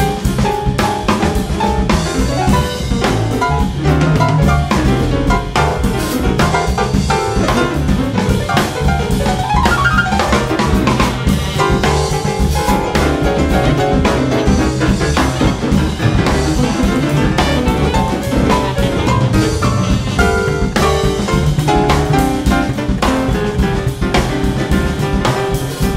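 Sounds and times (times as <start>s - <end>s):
drums and cymbals: 0.0s - 25.9s
jazz quartet playing: 0.0s - 25.9s.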